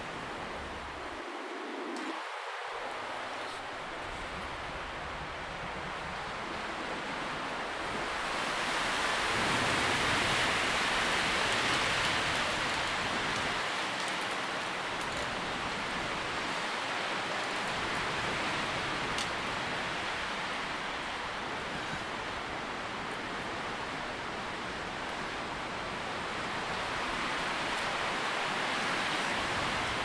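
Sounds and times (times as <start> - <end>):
wind rustling tree leaves: 0.0 - 30.0.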